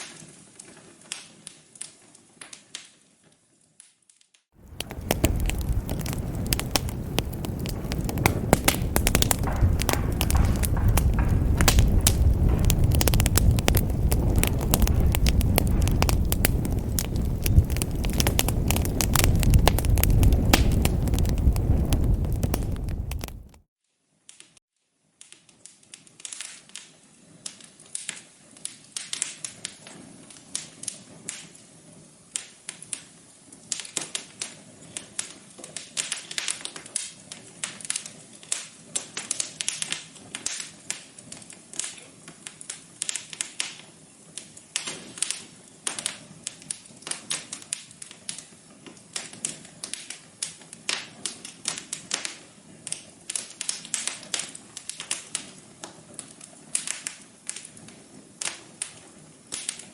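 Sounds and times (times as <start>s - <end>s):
wood fire crackling: 0.0s - 23.7s, 25.2s - 59.9s.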